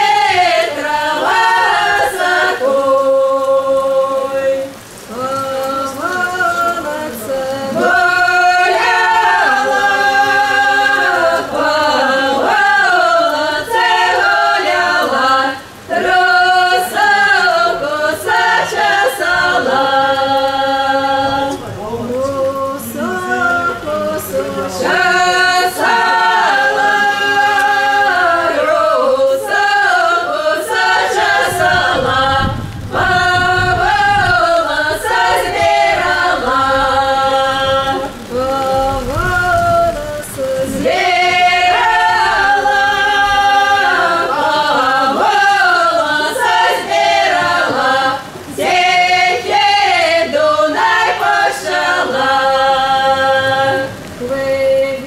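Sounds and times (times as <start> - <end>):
folk choir singing: 0.0 - 55.0.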